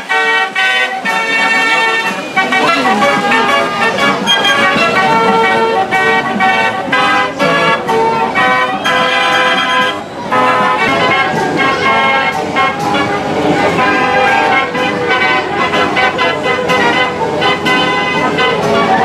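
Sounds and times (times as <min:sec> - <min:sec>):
fairground organ playing: 0:00.0 - 0:19.0.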